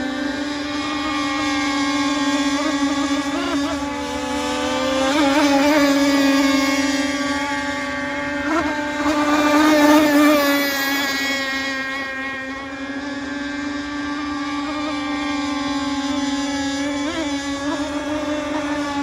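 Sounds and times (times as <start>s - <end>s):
model boat motor buzz: 0.0s - 19.0s.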